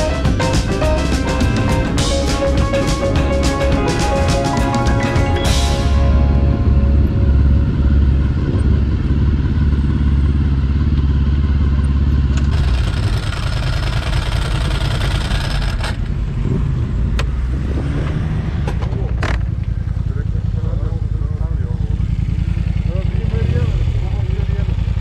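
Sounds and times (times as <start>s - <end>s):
motorcycle engine droning: 0.0s - 25.0s.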